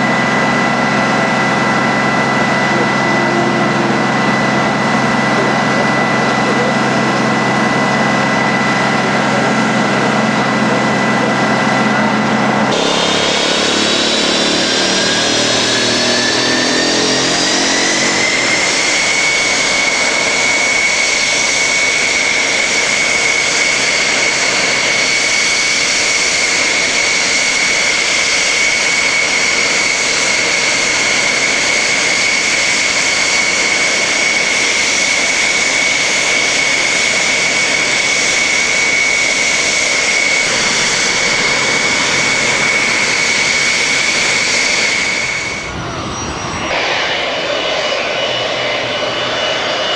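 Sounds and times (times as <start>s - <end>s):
jet engine running: 0.0s - 49.9s
turbine whine rising: 0.0s - 49.9s.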